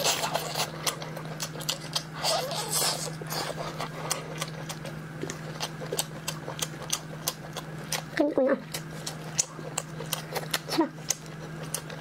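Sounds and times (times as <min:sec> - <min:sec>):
steady low hum: 0:00.0 - 0:12.0
wet chewing and lip-smacking: 0:00.0 - 0:12.0.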